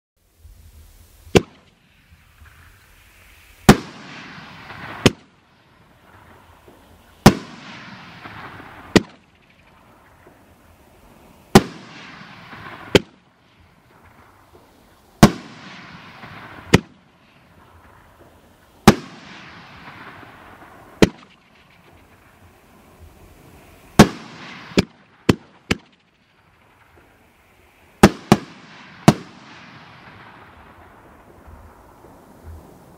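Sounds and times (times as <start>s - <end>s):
crackle of firework stars: 0.2s - 32.9s
firework aerial bang: 0.4s - 27.2s, 28.0s - 32.9s.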